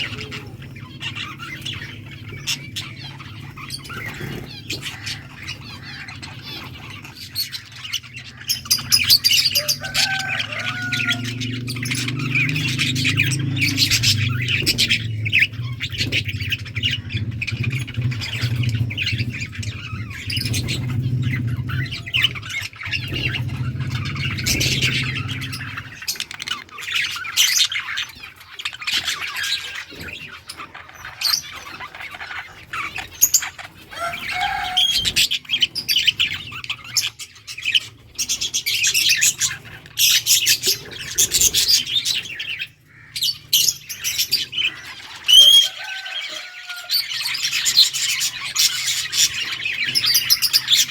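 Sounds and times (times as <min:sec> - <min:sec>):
budgerigars chirping and chattering: 0:00.0 - 0:50.9.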